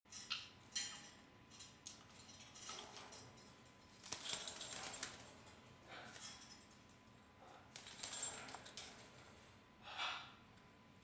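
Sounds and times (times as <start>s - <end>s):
parrots rattling plastic toys: 0.1s - 9.5s.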